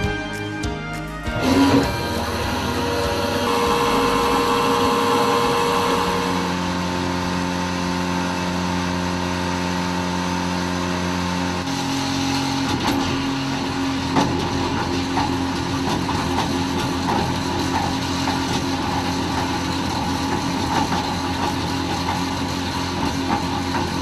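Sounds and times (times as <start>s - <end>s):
electric pump motor humming: 1.3s - 24.0s.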